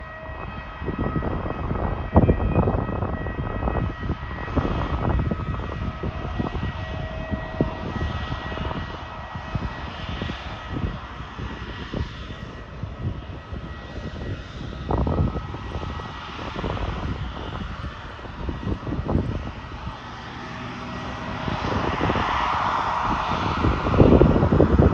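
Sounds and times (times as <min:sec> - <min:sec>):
jet engine starting whine: 0:00.0 - 0:24.9.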